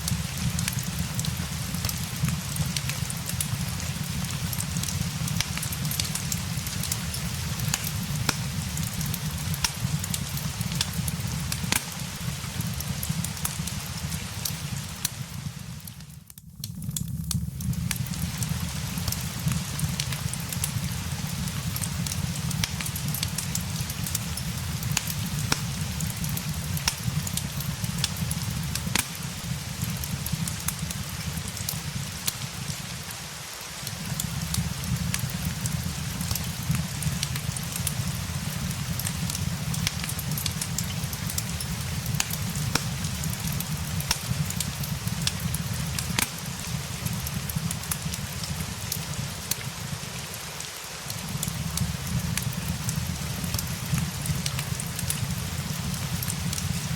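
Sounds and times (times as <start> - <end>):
crackling fireplace: 0.0 - 56.9
steady rain hiss: 0.0 - 56.9.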